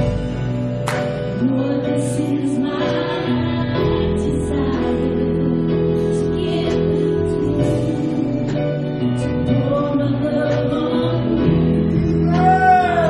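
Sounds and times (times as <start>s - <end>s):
church band playing gospel song: 0.0s - 13.0s.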